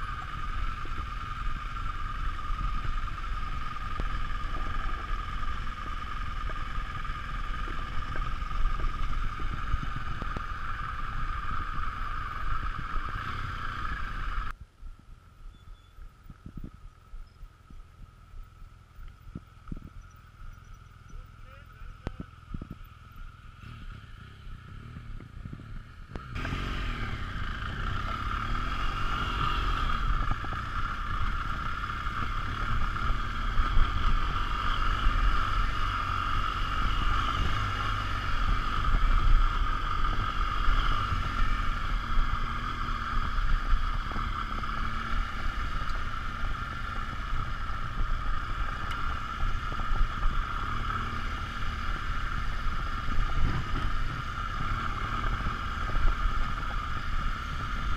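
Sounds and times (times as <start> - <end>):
wind rushing over microphone: 0.0 - 15.3, 16.0 - 18.5, 19.2 - 20.2, 21.1 - 57.9
motorcycle engine droning: 0.0 - 57.9.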